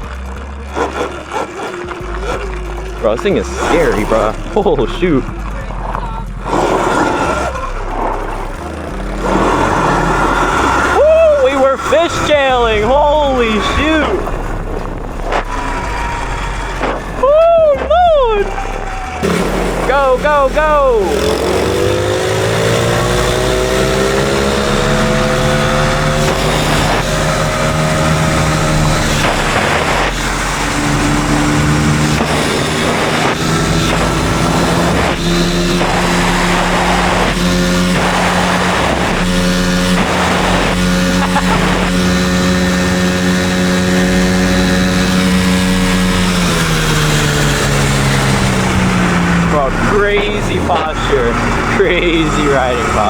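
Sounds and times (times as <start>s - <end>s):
dirt bike motor running: 0.0s - 53.0s
gravel noise: 0.0s - 53.0s.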